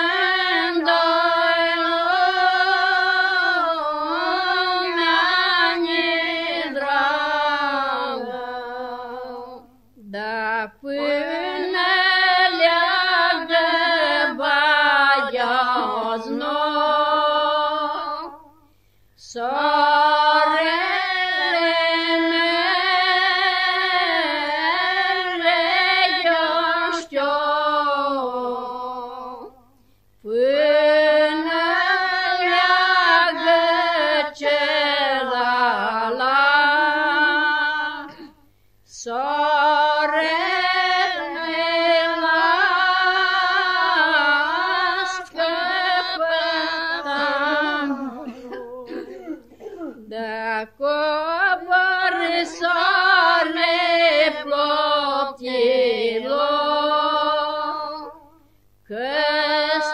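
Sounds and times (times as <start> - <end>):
woman singing unaccompanied: 0.0 - 59.9.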